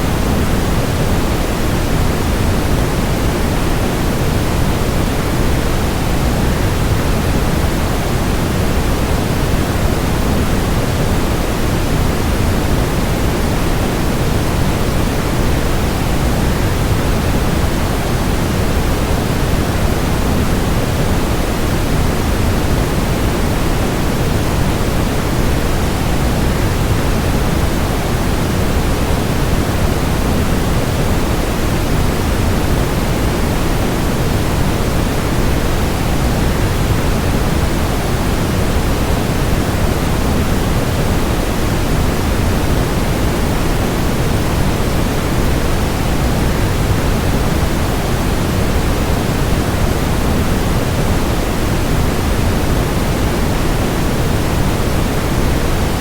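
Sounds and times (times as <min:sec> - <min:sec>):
white noise: 0:00.0 - 0:56.0.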